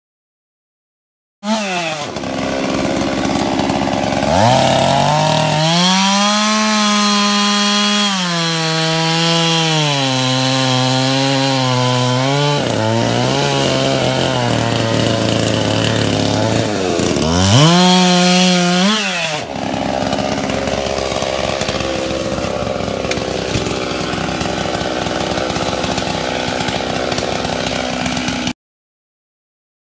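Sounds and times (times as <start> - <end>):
chainsaw cutting wood: 1.4 - 28.6
rougher chainsaw running: 1.4 - 28.6.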